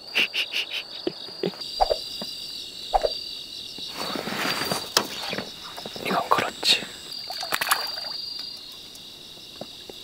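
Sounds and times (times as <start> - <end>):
crickets and insects chirping: 0.0 - 10.0.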